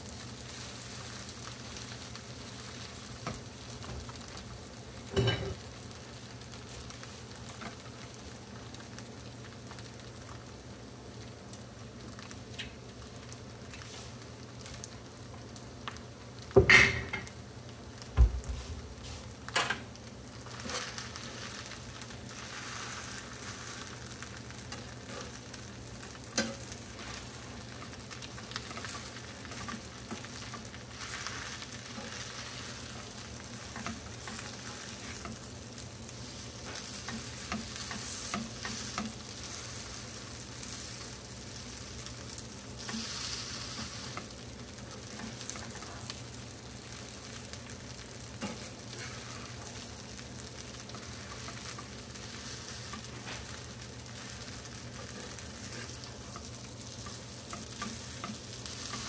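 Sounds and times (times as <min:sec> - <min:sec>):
rice sizzling in frying pan: 0:00.0 - 0:59.0.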